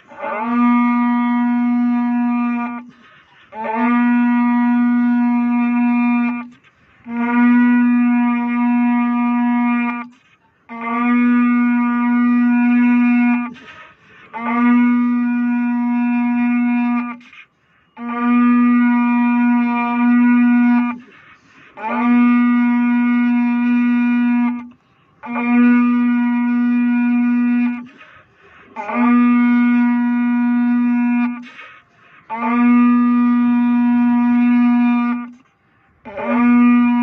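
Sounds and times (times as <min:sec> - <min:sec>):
shofar blasts: 0:00.0 - 0:37.0.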